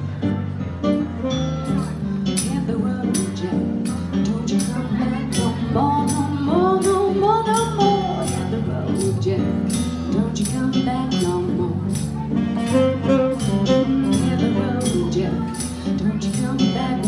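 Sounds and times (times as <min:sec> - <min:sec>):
electric keyboard chords: 0:00.0 - 0:17.0
woman singing into microphone: 0:02.2 - 0:17.0.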